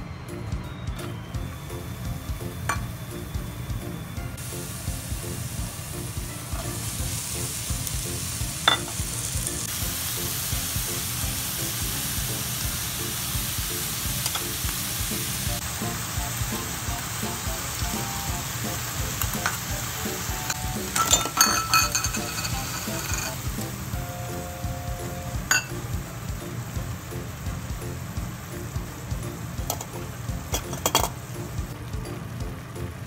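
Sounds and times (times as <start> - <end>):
meat frying in oil: 1.6 - 33.0.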